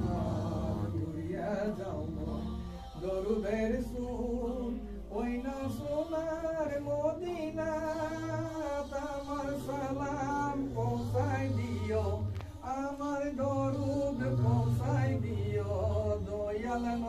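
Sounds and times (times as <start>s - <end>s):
man singing a devotional chant: 0.0s - 17.0s.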